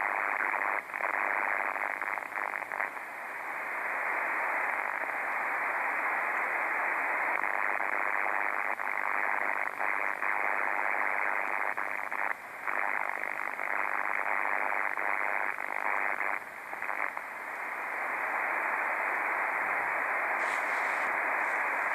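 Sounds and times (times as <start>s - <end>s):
radio pulse interference hiss: 0.0s - 21.9s.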